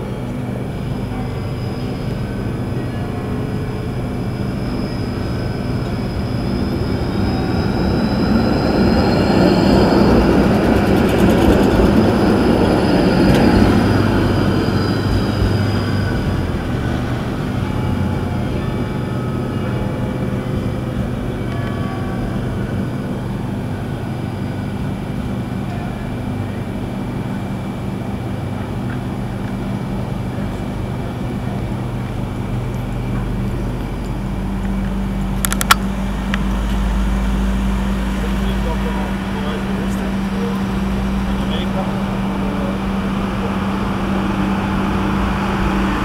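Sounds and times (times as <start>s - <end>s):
high whine sliding down: 0.0s - 46.0s
tram rumbling on rails: 0.0s - 46.0s.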